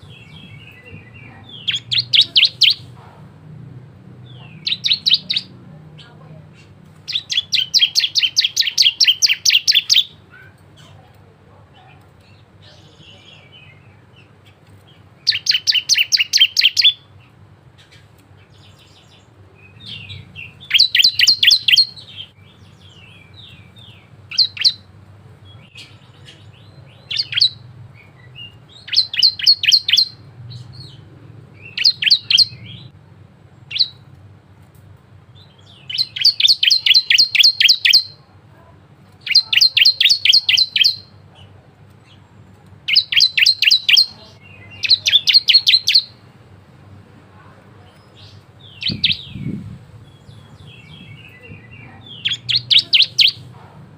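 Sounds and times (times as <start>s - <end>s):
bird chirping rapidly: 0.0s - 3.0s, 4.2s - 10.5s, 12.8s - 32.9s, 33.5s - 34.1s, 35.4s - 38.2s, 39.2s - 41.2s, 42.9s - 46.4s, 47.9s - 53.6s
faint low hum: 0.0s - 53.9s.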